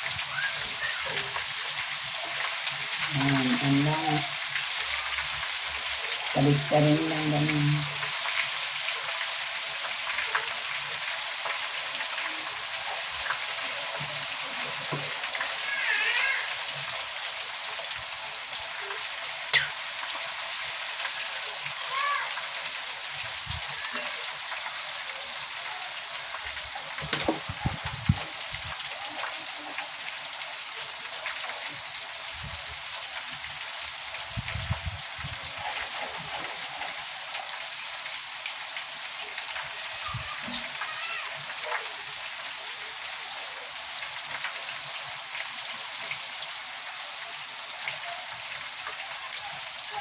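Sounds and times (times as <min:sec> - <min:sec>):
chicken frying in oil: 0:00.0 - 0:50.0.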